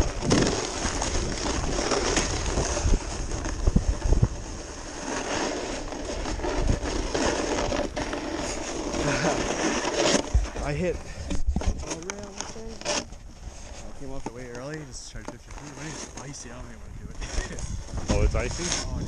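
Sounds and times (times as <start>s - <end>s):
snowboard scraping over icy snow: 0.0s - 11.2s, 11.8s - 19.0s.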